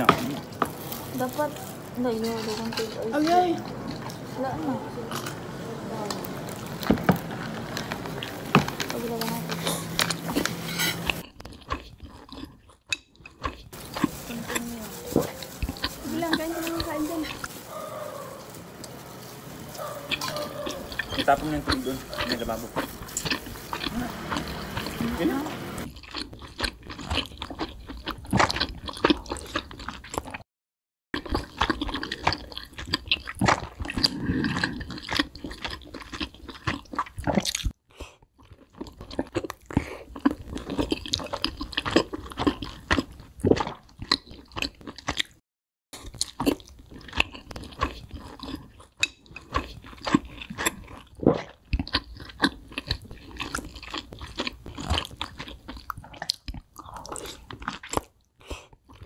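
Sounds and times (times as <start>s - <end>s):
chewing crispy fried chicken: 0.0s - 30.4s, 31.2s - 45.4s, 46.0s - 59.0s.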